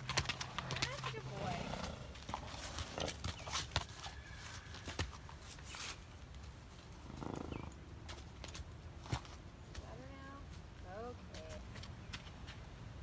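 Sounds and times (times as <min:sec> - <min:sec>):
horse hooves on gravel: 0:00.0 - 0:07.1, 0:08.0 - 0:12.7.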